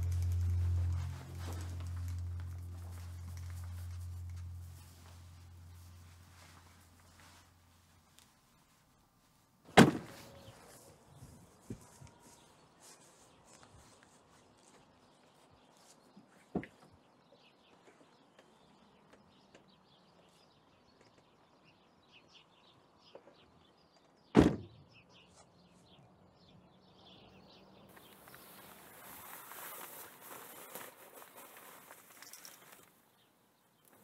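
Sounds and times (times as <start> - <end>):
faint birdsong: 0.0 - 34.0.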